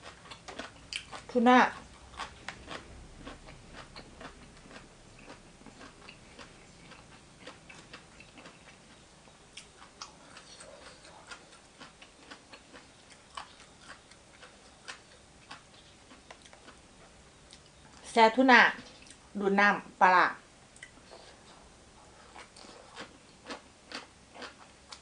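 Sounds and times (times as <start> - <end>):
chewing: 0.0 - 18.1, 20.8 - 25.0.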